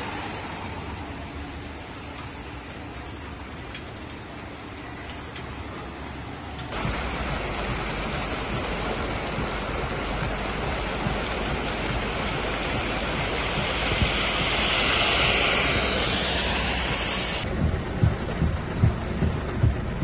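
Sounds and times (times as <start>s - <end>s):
heavy rain on a wet street: 0.0s - 20.0s.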